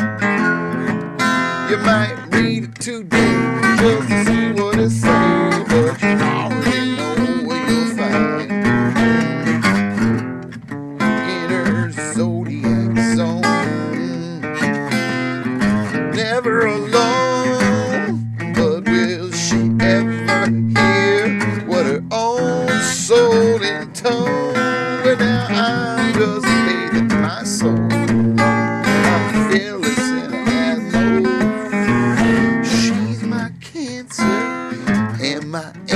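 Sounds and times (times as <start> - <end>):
acoustic guitar strumming: 0.0 - 35.9.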